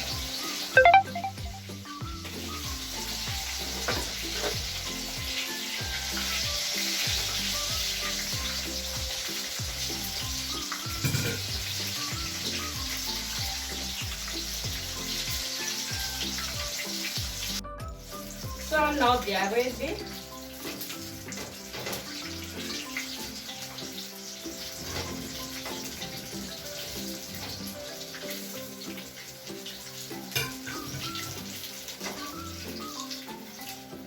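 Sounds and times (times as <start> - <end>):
chicken deep-frying in oil: 0.0 - 34.0.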